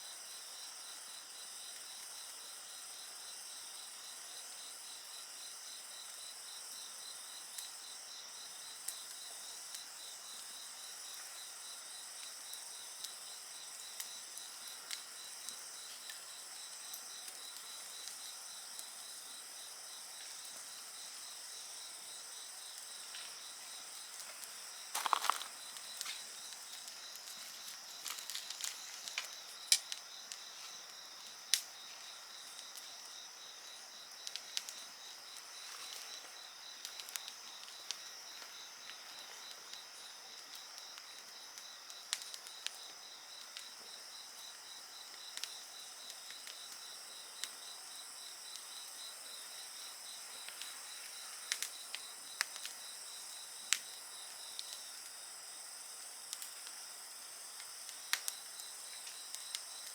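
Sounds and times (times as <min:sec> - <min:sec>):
insects trilling: 0:00.0 - 0:59.9
campfire crackling: 0:06.6 - 0:59.9.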